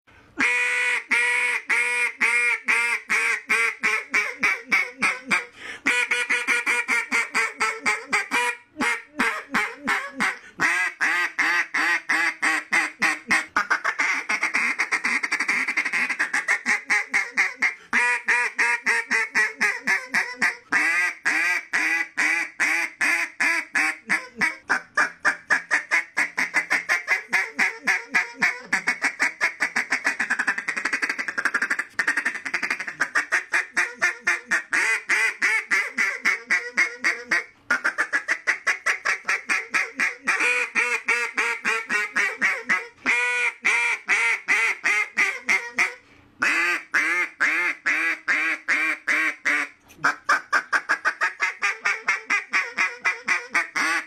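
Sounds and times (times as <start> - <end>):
duck call quacking: 0.4 - 54.0.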